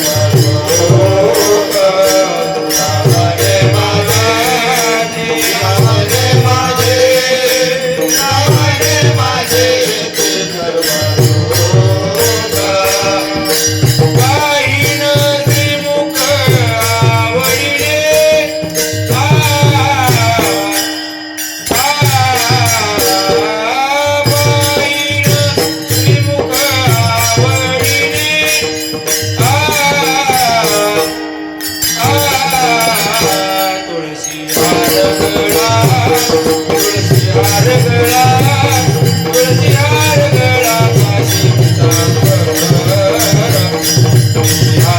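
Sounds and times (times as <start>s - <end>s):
man singing devotional melody: 0.0s - 44.9s.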